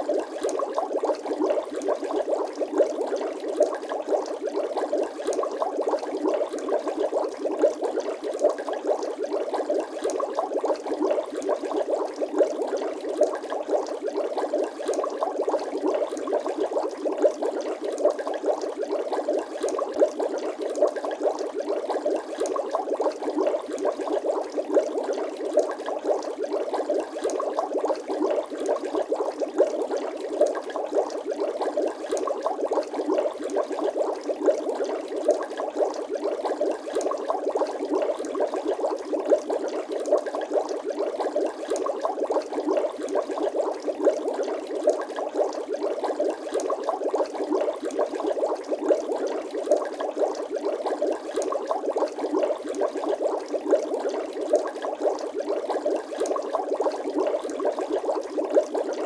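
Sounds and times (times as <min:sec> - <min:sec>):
liquid bubbling and gurgling: 0:00.0 - 0:59.0.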